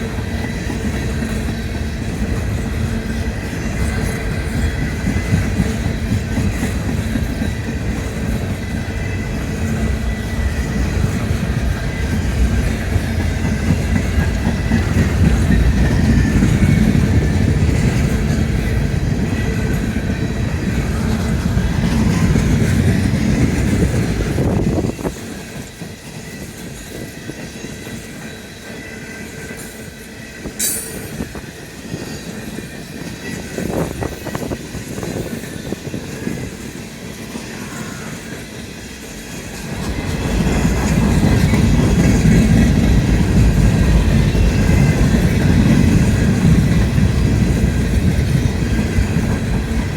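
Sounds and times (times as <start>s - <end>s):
train cars rumbling on rails: 0.0s - 49.9s.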